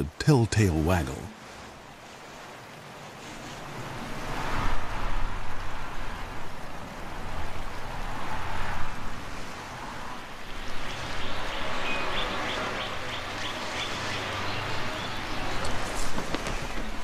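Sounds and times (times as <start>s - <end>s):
gusting wind: 0.0s - 17.0s.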